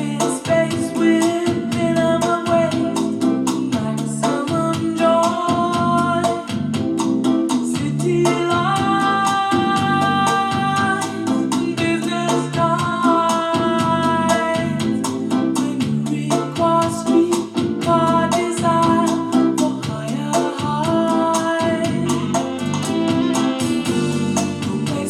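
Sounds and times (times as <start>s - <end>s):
song through tv speakers: 0.0s - 25.0s.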